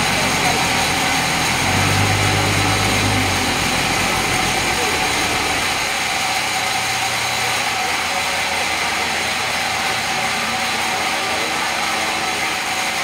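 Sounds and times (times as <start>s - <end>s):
band saw running: 0.0s - 13.0s.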